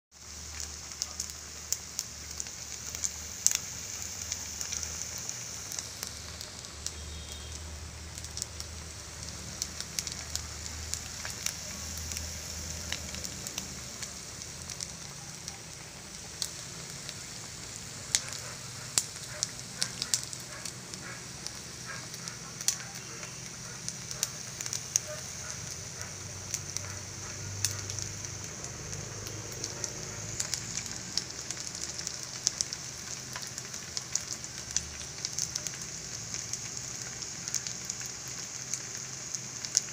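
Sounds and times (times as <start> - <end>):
food frying in oil: 0.1 - 39.9
sharp pops and crackles: 0.1 - 39.9.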